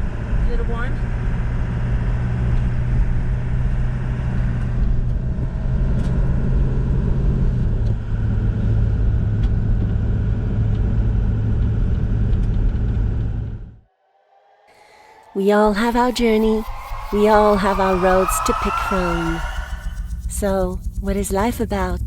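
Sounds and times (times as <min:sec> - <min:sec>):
vehicle engine drone: 0:00.0 - 0:22.0.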